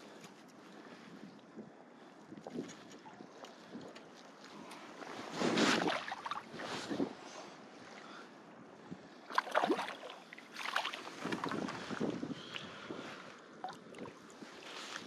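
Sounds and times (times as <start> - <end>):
wading through shallow water: 0.0 - 15.0.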